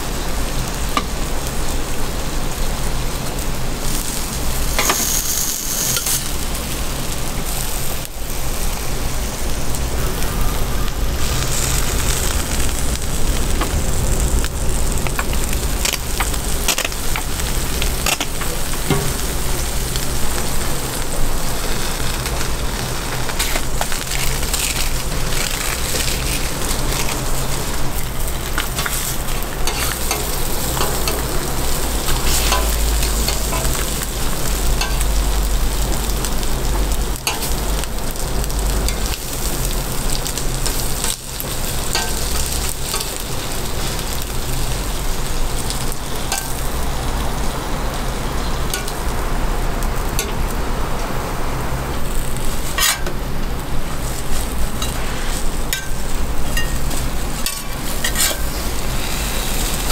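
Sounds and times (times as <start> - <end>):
food sizzling on a griddle: 0.0 - 59.9.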